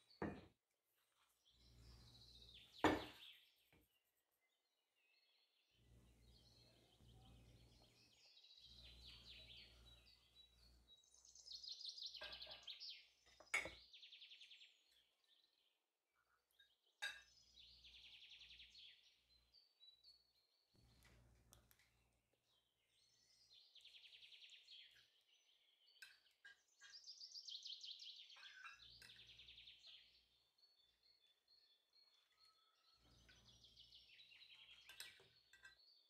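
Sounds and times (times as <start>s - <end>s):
faint birds chirping and trilling: 0.0s - 36.0s.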